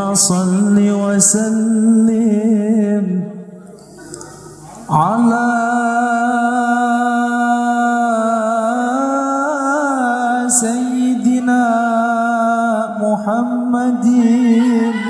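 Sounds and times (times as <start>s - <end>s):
man singing through a microphone: 0.0s - 3.6s, 4.8s - 15.0s.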